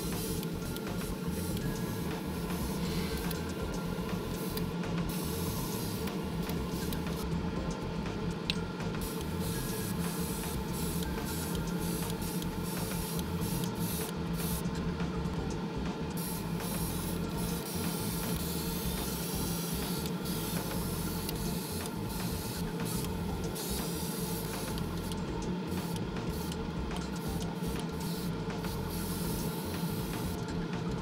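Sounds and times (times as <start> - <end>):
airbrush spraying hiss: 0.0 - 7.3, 9.0 - 14.6, 16.2 - 26.6, 27.2 - 30.4
motor hum: 0.0 - 31.0.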